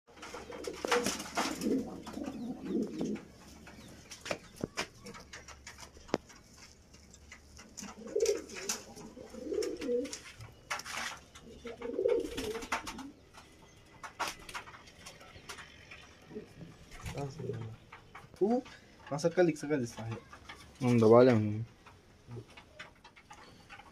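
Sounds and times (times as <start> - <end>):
clicks and rustles: 0.1 - 23.9
pigeons cooing: 0.1 - 23.9.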